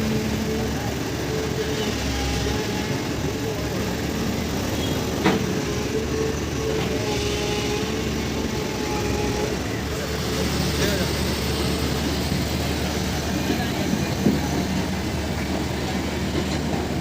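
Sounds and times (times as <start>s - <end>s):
excavator engine droning: 0.0s - 17.0s.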